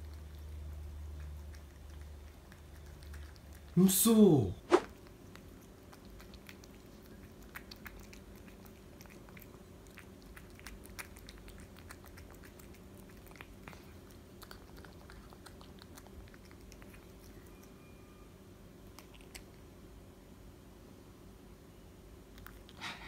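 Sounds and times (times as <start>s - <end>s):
cat chewing and licking: 0.0s - 4.2s, 4.9s - 18.0s, 18.8s - 19.8s, 22.3s - 23.0s.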